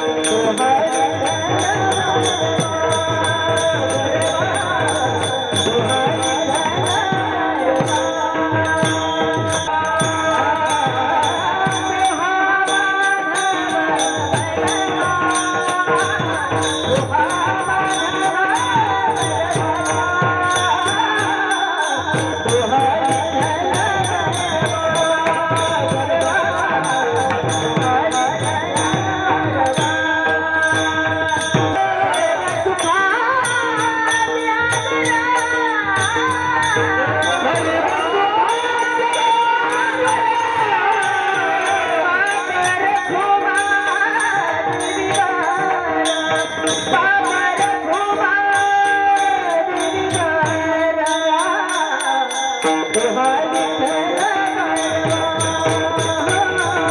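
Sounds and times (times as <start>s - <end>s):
harmonium tones: 0.0s - 56.9s
jingling hand cymbals: 0.0s - 56.9s
person singing: 0.0s - 56.9s.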